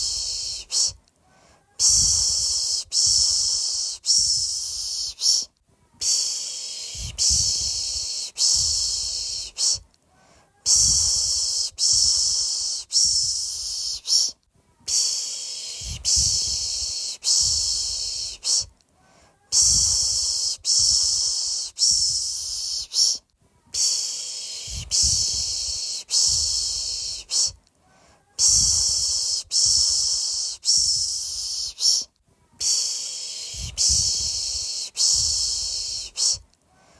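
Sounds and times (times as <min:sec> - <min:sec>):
person shushing a baby: 0:00.0 - 0:18.7, 0:19.3 - 0:36.4.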